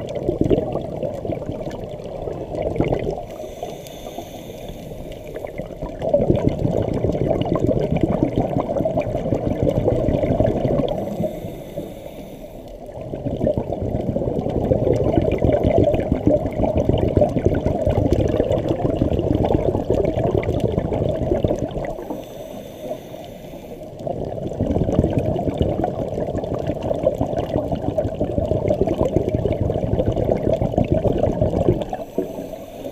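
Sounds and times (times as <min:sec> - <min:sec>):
muffled underwater water rush: 0:00.0 - 0:32.9.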